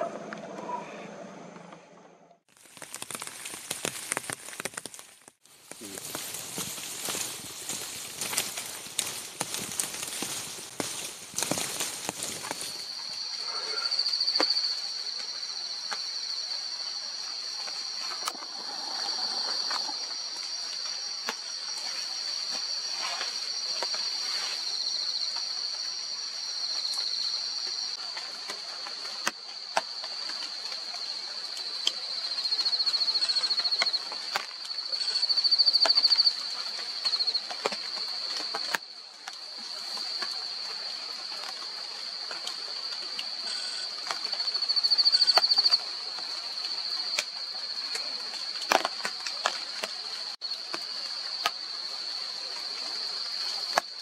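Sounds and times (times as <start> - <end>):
insects droning: 2.5 - 54.0.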